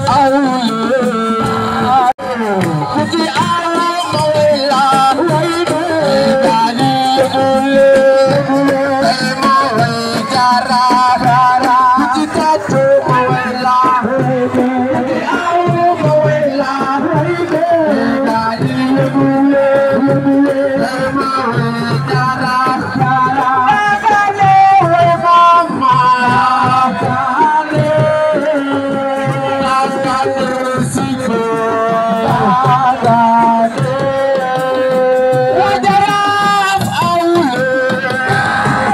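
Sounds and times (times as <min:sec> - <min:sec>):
person singing: 0:00.0 - 0:38.9
steady drum beat: 0:00.0 - 0:38.9.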